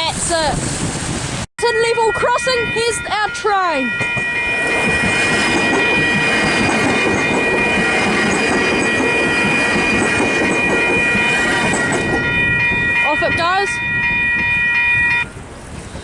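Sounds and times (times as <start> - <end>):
train wheels rumbling on rails: 0.0 - 16.0
high ringing tones: 1.6 - 15.4.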